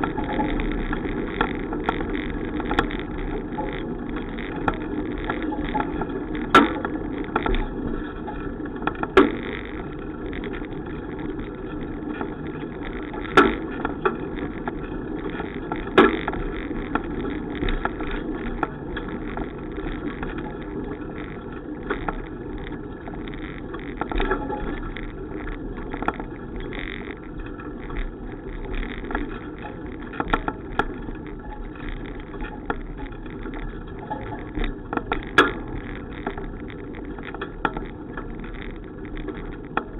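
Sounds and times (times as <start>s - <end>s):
bicycle knocks and rattles: 0.0s - 39.9s
wind and tyre noise: 0.0s - 39.9s.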